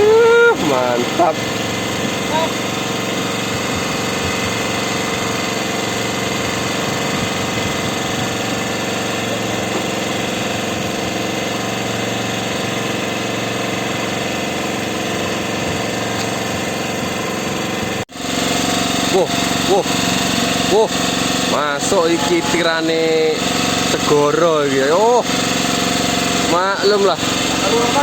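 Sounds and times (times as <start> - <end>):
boat engine idling: 0.0 - 28.0.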